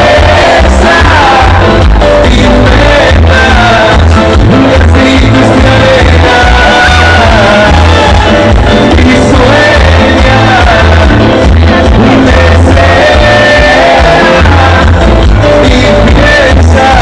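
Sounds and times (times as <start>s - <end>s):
loud music with pulsing bass: 0.0s - 17.0s.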